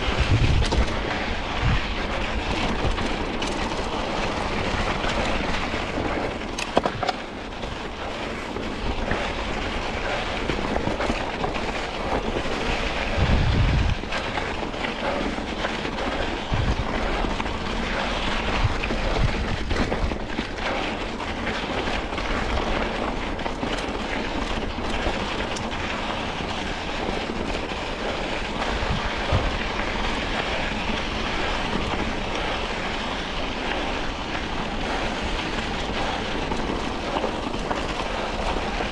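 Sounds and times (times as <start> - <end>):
wind rushing over microphone: 0.0 - 23.5, 24.4 - 38.9
bike knocks and rattles: 0.0 - 38.9
tyres rolling over gravel and rocks: 0.0 - 38.9.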